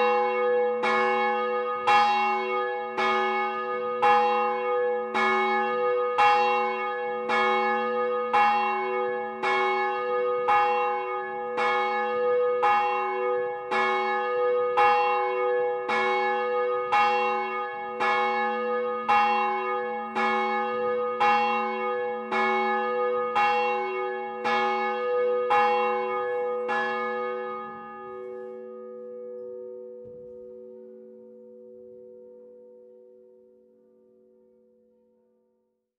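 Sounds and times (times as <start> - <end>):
church bell tolling: 0.0 - 34.7.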